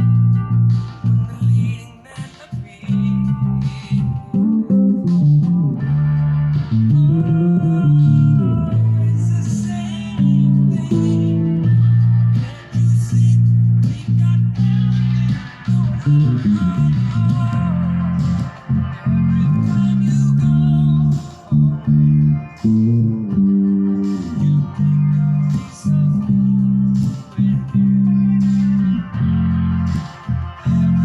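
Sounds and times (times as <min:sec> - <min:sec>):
bass line: 0:00.0 - 0:31.0
plucked guitar: 0:00.0 - 0:31.0.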